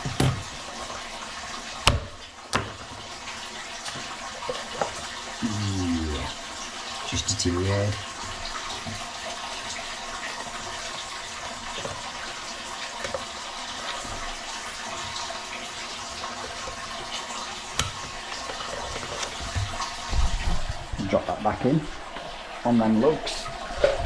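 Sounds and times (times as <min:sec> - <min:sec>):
water running: 0:00.0 - 0:24.0.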